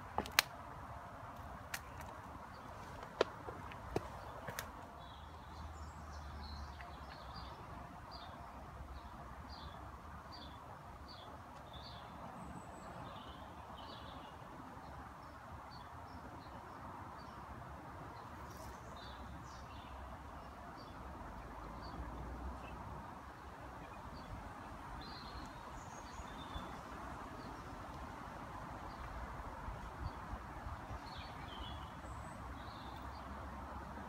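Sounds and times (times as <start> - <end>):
songbird chirping: 1.2 - 34.0.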